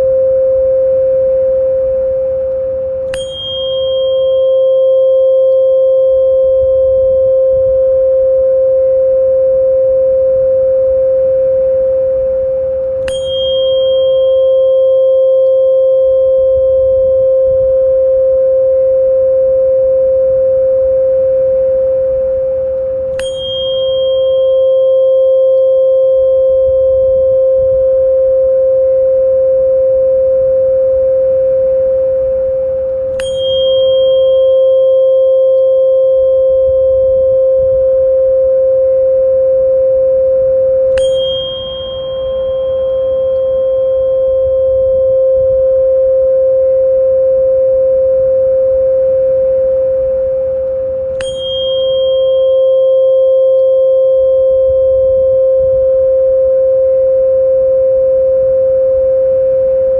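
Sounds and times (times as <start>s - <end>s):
small high chime: 0.0s - 59.9s
steady sustained tone: 0.0s - 59.9s.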